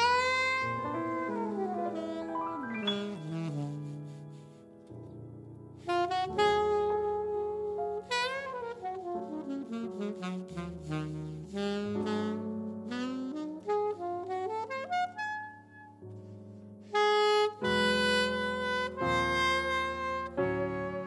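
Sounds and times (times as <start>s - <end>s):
alto saxophone jazz ballad: 0.0s - 5.1s, 5.7s - 21.0s
piano accompaniment: 0.0s - 21.0s.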